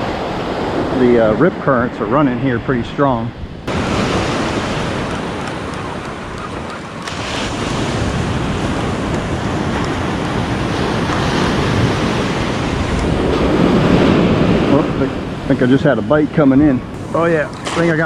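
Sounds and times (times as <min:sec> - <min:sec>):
ocean surf breaking on sand: 0:00.0 - 0:18.0
wind rumbling on microphone: 0:00.0 - 0:18.0.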